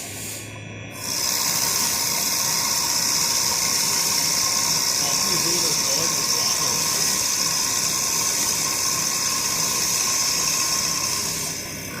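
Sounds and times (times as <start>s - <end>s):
woodworking machine whine: 0.0s - 12.0s.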